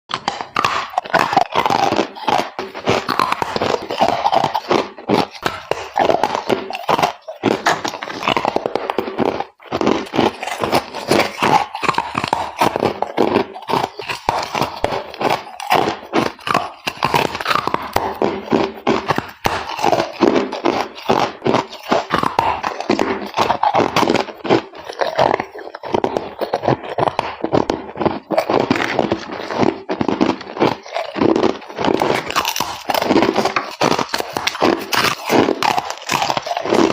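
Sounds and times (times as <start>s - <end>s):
ice being chewed: 0.1s - 36.9s.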